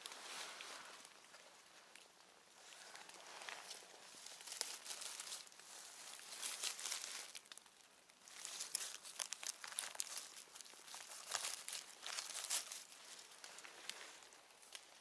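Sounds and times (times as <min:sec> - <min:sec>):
forest undergrowth rustling and crackling: 0:00.0 - 0:15.0.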